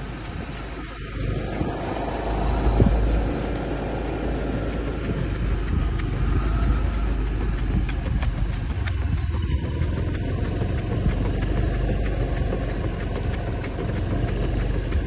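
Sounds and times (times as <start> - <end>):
vehicle rumbling along: 0.0 - 15.0
wind on microphone: 0.0 - 15.0.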